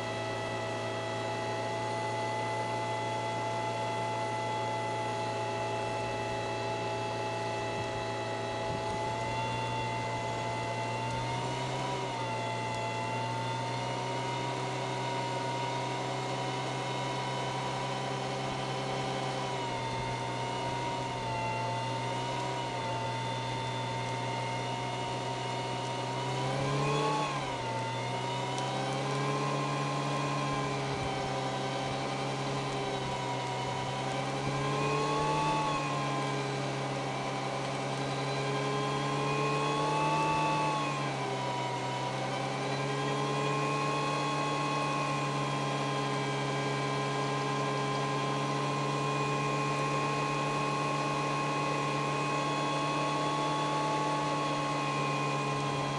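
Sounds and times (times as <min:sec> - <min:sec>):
car engine revving high: 0:00.0 - 0:55.9
wheels spinning: 0:00.0 - 0:55.9.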